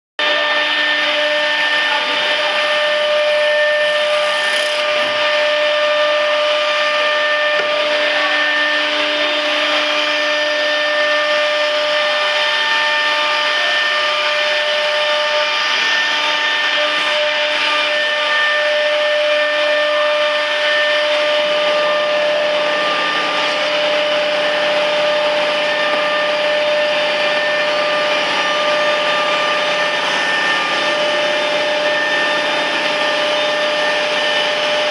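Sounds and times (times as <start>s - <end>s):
cnc router spindle whine: 0.2s - 34.9s.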